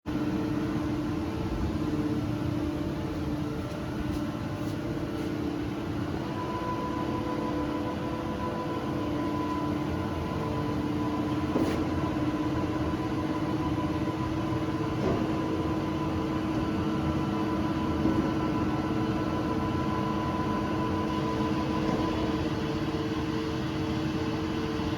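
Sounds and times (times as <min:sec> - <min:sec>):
high steady whine: 0:00.1 - 0:22.6
milling machine hum: 0:00.1 - 0:24.9.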